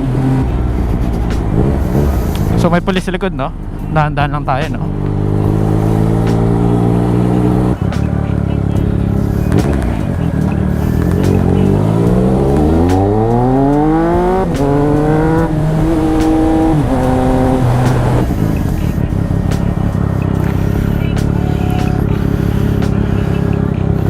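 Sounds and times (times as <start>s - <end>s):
motorcycle engine accelerating and upshifting: 0.0s - 24.0s.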